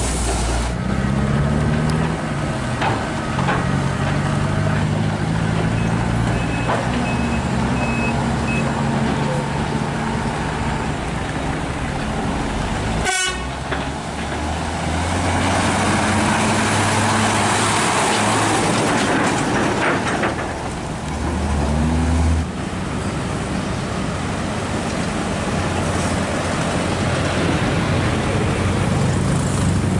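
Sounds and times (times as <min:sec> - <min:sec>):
diesel truck driving past: 0:00.0 - 0:29.9.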